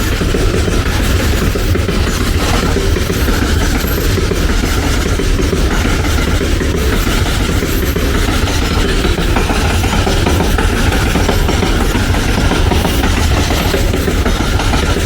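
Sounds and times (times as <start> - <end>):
train rumbling past: 0.0 - 15.0
wheels clattering on rails: 0.0 - 15.0.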